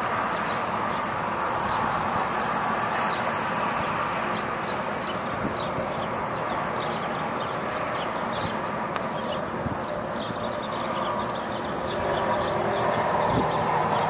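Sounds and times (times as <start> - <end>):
outdoor rushing noise: 0.0 - 14.0
small birds chirping: 0.0 - 14.0.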